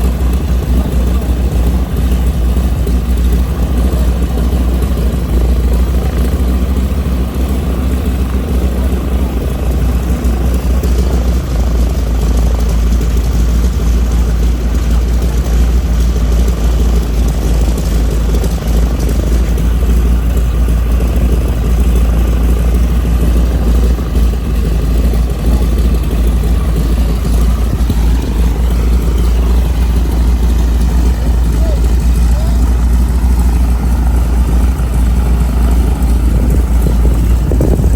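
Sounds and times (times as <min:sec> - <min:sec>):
propeller airplane engine drone: 0:00.0 - 0:37.9.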